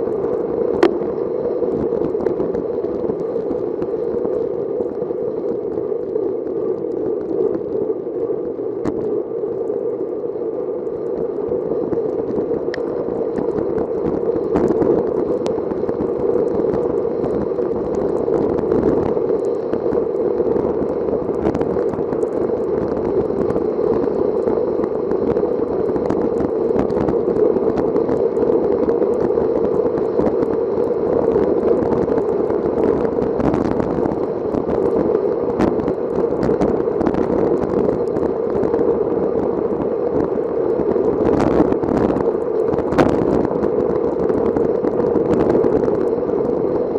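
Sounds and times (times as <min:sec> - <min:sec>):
small clicks and ticks: 0:00.0 - 0:46.9
wind on microphone: 0:00.0 - 0:46.9.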